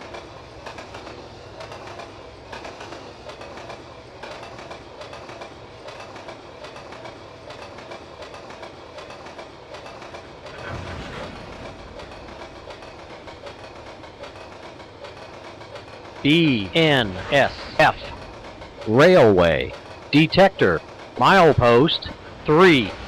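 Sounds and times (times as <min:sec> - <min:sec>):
train wheels clattering on rails: 0:00.0 - 0:16.3, 0:16.9 - 0:18.9, 0:19.7 - 0:20.2, 0:20.8 - 0:21.2.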